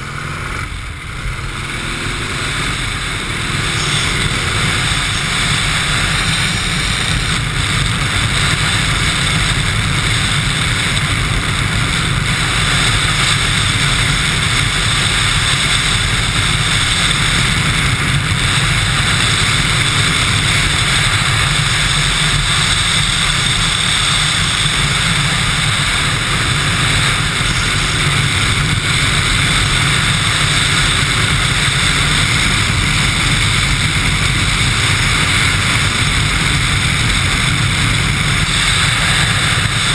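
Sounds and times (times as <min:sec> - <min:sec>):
motorcycle engine and wind: 0:00.0 - 0:39.9.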